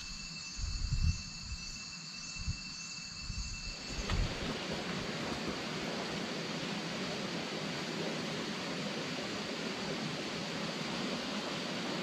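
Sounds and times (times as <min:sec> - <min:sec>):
insects trilling: 0:00.0 - 0:12.0
steady hiss: 0:00.0 - 0:12.0.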